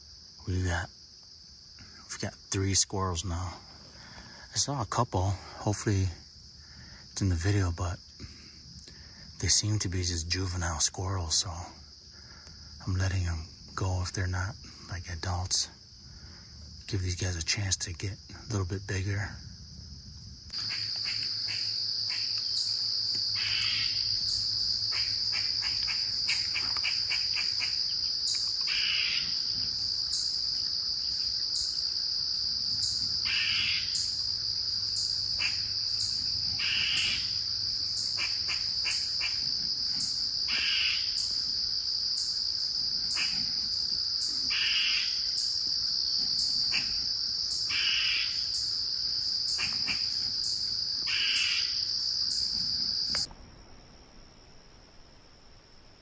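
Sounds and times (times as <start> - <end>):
crickets and insects chorus: 0.0 - 56.0.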